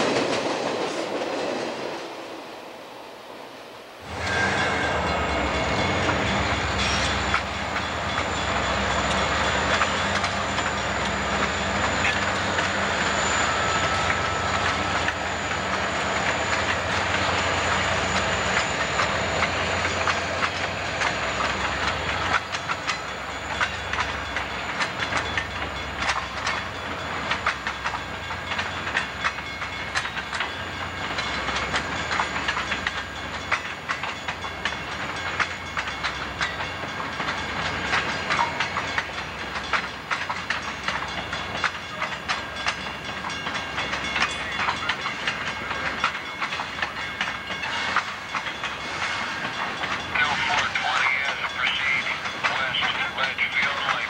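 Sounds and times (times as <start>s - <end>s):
diesel locomotive engine drone: 0.0s - 54.0s
wheels clicking over rail joints: 4.1s - 54.0s.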